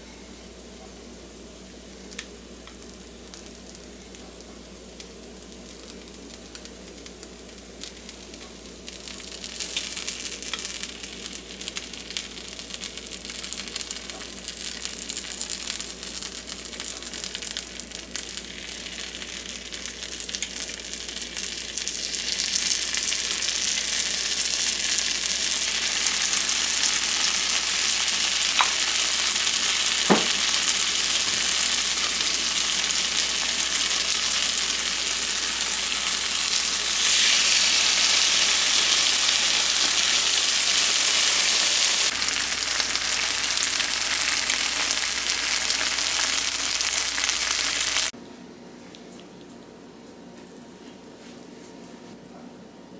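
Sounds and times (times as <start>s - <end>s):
food sizzling in a pan: 2.0s - 48.2s.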